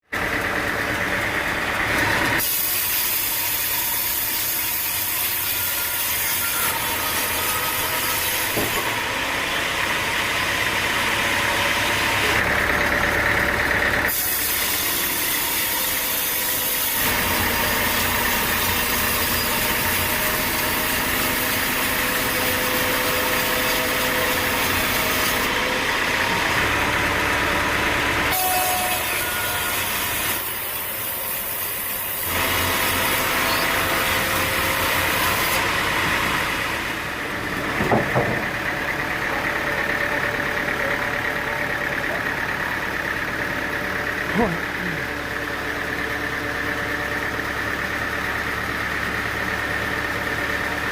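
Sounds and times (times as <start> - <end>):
sawmill engine running: 0.0 - 50.9
saw cutting wood: 0.1 - 50.9.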